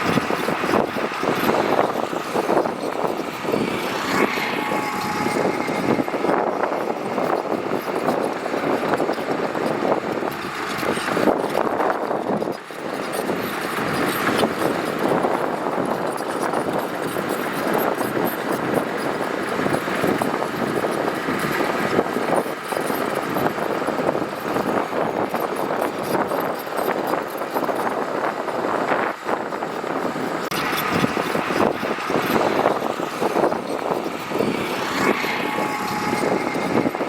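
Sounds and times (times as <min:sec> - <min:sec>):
heavy machinery working gravel: 0:00.0 - 0:37.0.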